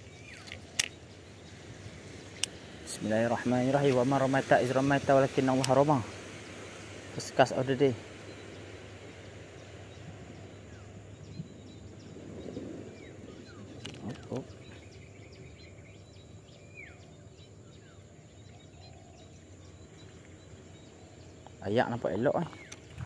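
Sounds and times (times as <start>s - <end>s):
falling bird calls: 0.0s - 23.0s
outdoor background noise: 0.0s - 23.0s.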